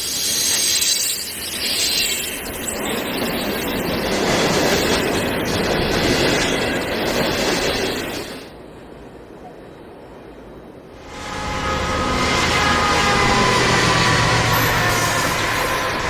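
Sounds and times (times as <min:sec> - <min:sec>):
freight train wheels on rail: 0:00.0 - 0:16.0.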